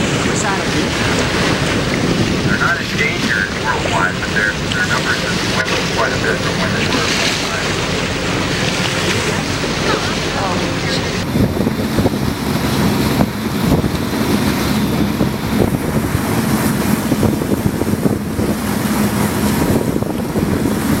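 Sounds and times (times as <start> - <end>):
sea water rushing: 0.0 - 21.0
wind buffeting microphone: 0.0 - 21.0.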